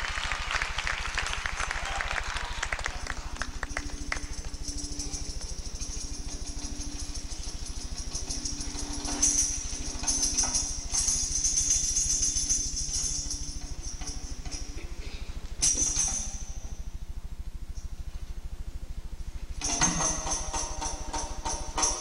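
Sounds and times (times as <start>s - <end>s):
jingling percussion music: 0.0s - 17.0s, 19.6s - 22.0s
low hum: 0.0s - 22.0s.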